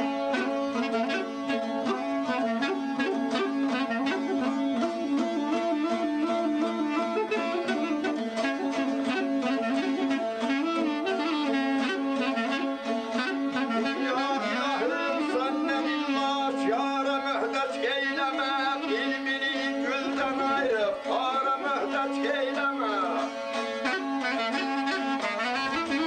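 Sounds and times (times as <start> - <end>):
double-reed wind instrument melody: 0.0 - 26.0
strummed saz: 0.0 - 26.0.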